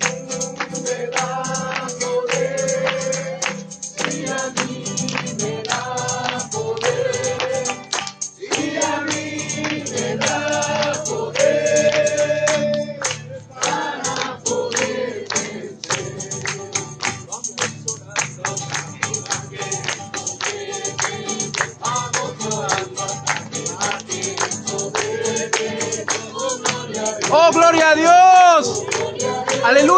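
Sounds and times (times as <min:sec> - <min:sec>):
group singing a hymn: 0:00.0 - 0:29.9
tambourine beat: 0:00.0 - 0:29.9.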